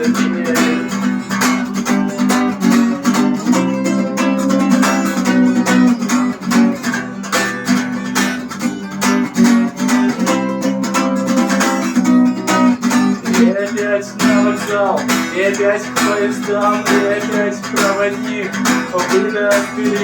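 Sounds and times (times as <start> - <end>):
instrumental rock music: 0.0 - 20.0
strummed guitar: 0.0 - 20.0.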